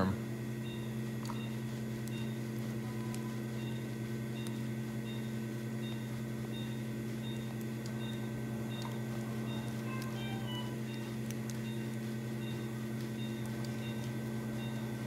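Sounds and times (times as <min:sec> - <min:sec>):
electrical equipment hum: 0:00.0 - 0:15.0.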